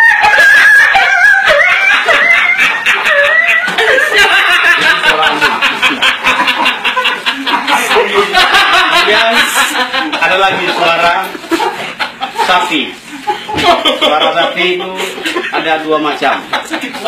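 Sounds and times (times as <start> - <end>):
laughter: 0.0 - 17.0.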